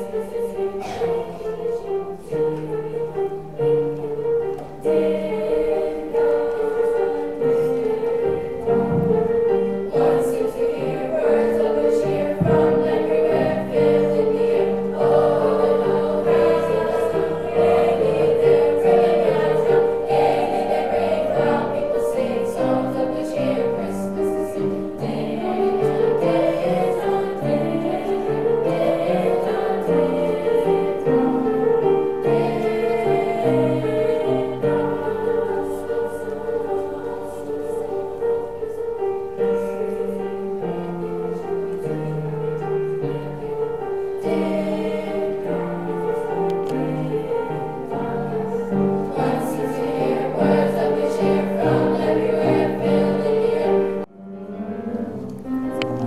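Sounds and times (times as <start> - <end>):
children's chorus singing: 0.0 - 54.1
piano accompaniment: 0.0 - 56.0.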